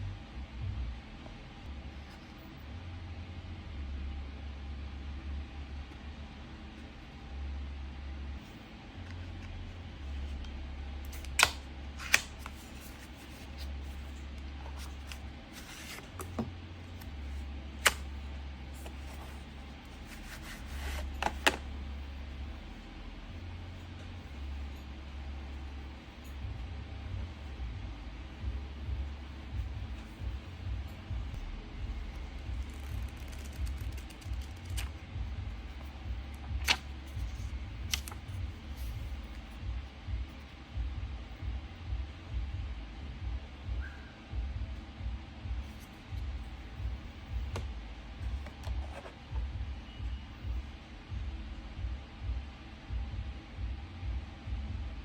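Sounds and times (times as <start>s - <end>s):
low steady hum: 0.0s - 55.0s
steady low rumble: 0.0s - 55.0s.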